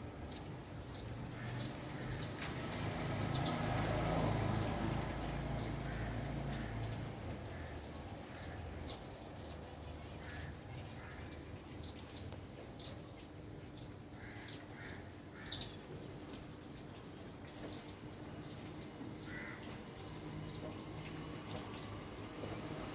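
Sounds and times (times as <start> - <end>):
faint outdoor hiss: 0.0 - 22.9
small birds chirping: 0.0 - 22.9.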